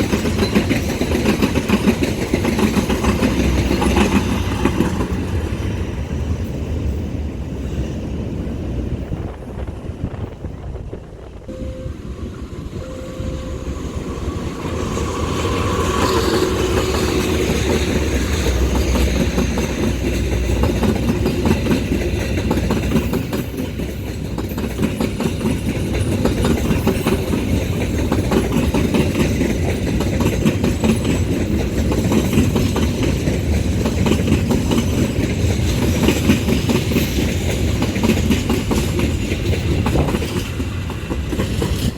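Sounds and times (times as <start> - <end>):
wheels clattering over rails: 0.0 - 6.6, 13.8 - 41.9
train rumbling past: 0.0 - 41.9.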